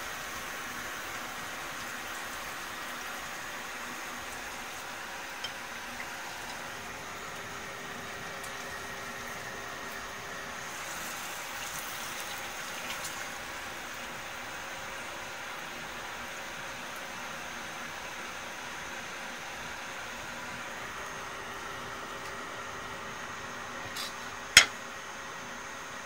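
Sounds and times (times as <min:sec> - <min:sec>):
food frying in hot oil: 0:00.0 - 0:26.0.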